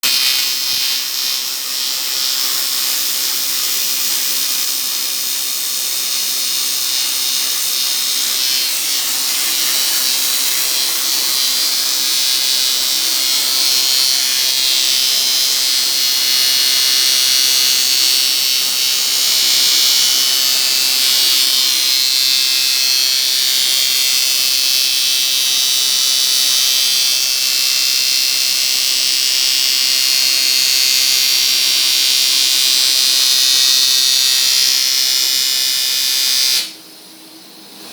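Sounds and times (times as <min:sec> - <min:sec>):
welding arc buzzing hiss: 0:00.0 - 0:37.9.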